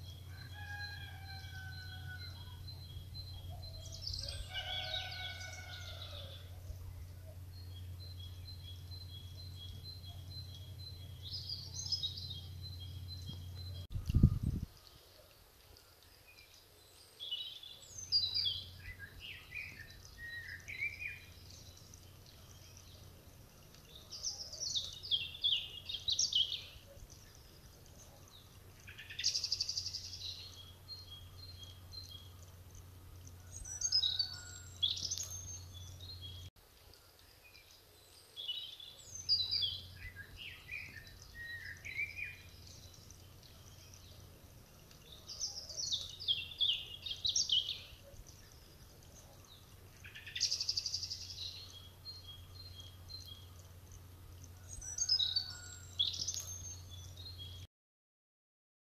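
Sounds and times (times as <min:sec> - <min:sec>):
faint low hum: 0:00.0 - 0:57.7
songbirds singing: 0:00.0 - 0:57.7.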